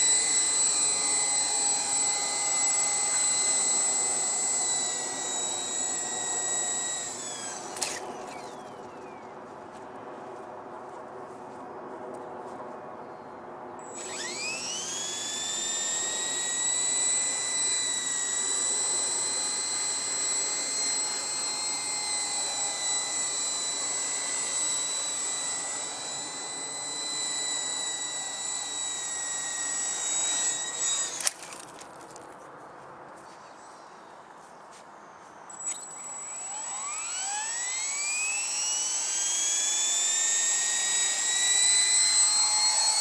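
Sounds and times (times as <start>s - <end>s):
rc helicopter motor whine: 0.0s - 9.3s, 13.8s - 32.2s, 35.4s - 43.0s.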